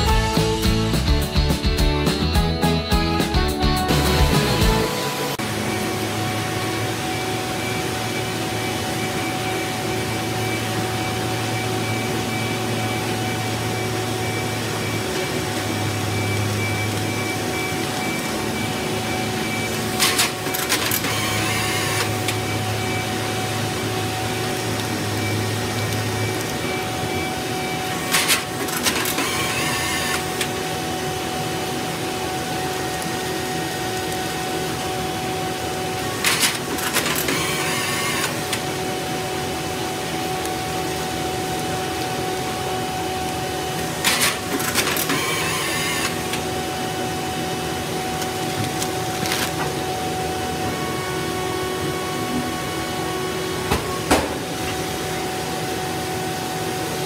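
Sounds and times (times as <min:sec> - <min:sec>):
baler machine hum: 0:00.0 - 0:57.0.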